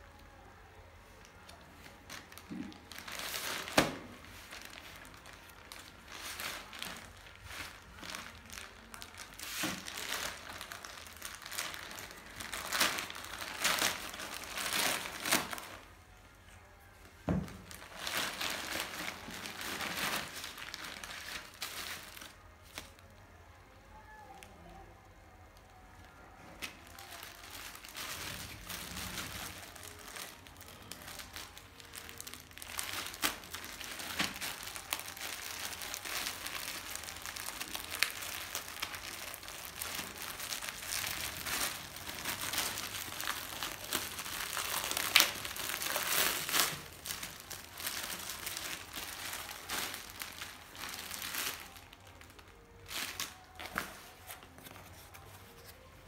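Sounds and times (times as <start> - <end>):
plastic bag crinkling: 1.2 - 15.9, 17.3 - 23.0, 25.8 - 55.9.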